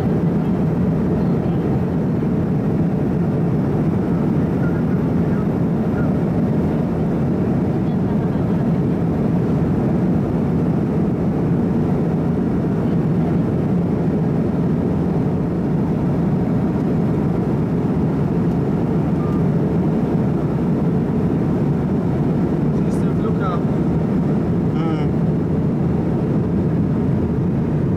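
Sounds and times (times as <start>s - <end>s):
airliner cabin roar: 0.0s - 27.9s.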